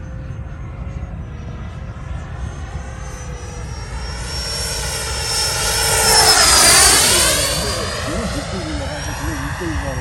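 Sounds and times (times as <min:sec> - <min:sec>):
model jet fans whining fly-by: 0:00.0 - 0:10.0.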